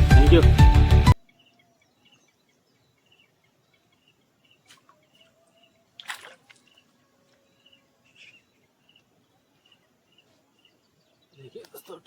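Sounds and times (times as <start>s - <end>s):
faint outdoor ambience: 0.0s - 12.0s
small bird chirping: 1.2s - 12.0s.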